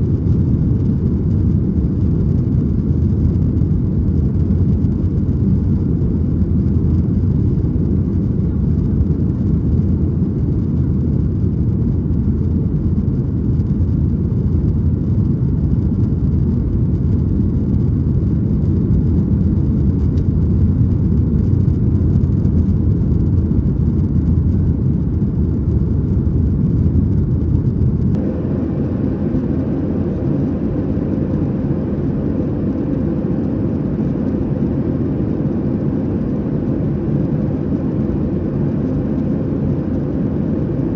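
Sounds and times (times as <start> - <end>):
airplane cabin noise: 0.0 - 40.9
jet engines and airflow: 0.0 - 40.9.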